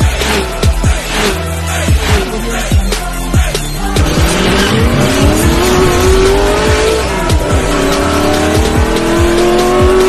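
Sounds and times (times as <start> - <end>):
race car engine revving: 0.0 - 2.8, 3.8 - 10.0
electronic music with kicks: 0.0 - 10.0.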